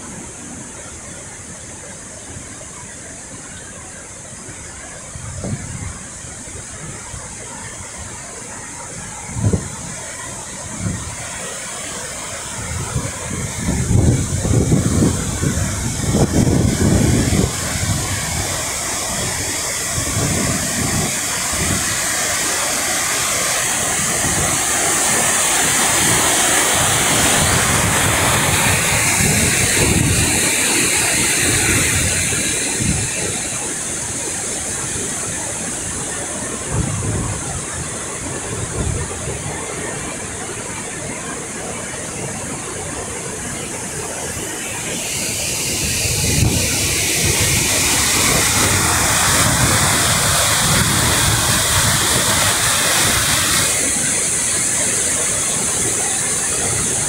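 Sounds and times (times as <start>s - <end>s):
waterfall roaring: 0.0s - 57.0s
wind rumbling on microphone: 4.6s - 57.0s.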